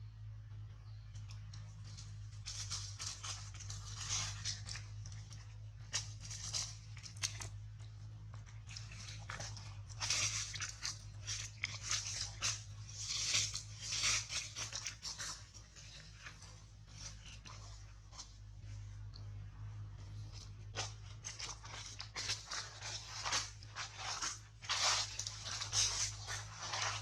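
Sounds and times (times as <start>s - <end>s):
steady low hum: 0.0s - 27.0s
crunching and rustling: 1.0s - 27.0s.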